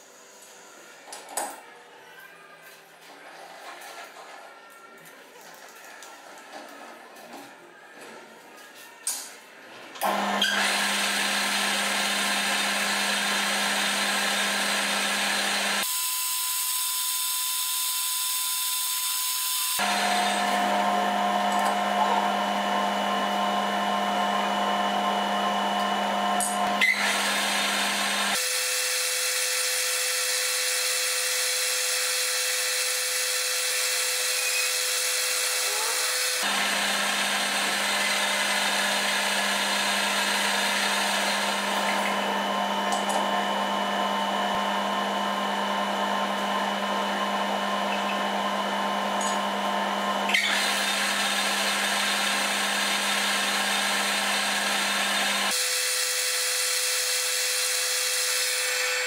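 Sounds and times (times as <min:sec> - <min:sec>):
metal lathe motor whine: 0:10.0 - 0:59.0.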